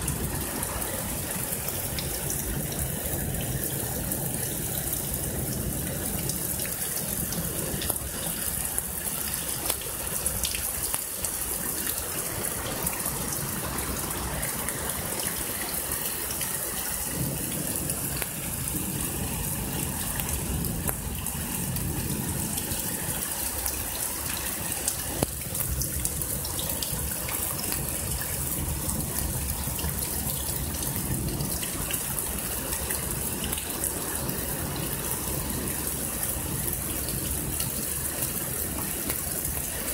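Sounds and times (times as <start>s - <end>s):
heavy rain pouring: 0.0s - 39.9s
water splashing and running off: 0.0s - 39.9s.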